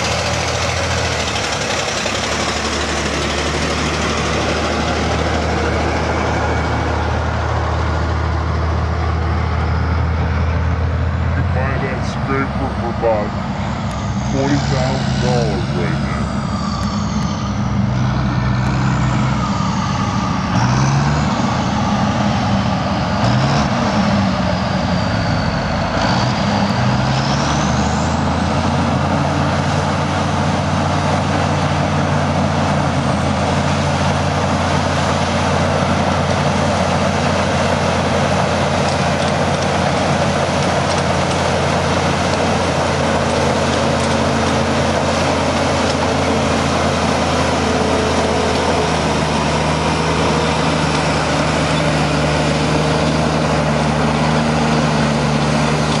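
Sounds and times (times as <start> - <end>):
heavy diesel engine: 0.0 - 56.0.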